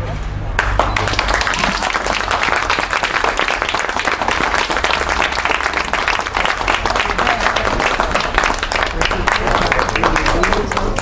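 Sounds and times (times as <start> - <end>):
crowd applauding: 0.6 - 11.0.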